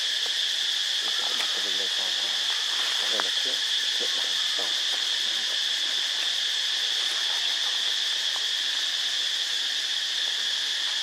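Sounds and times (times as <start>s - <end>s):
insects chorus shrill drone: 0.0s - 11.0s.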